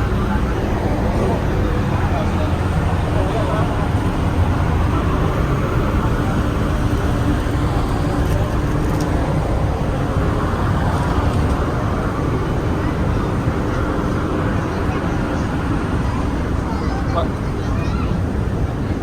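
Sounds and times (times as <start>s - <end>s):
faint voices: 0.0s - 19.0s
low engine rumble: 0.0s - 19.0s.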